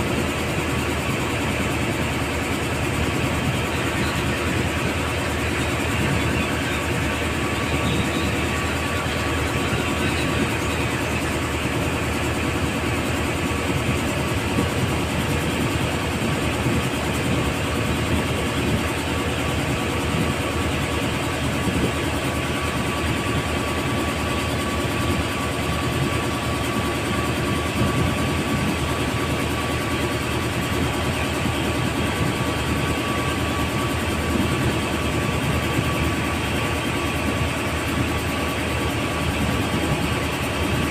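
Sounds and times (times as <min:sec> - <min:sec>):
motorboat engine running: 0:00.0 - 0:40.9.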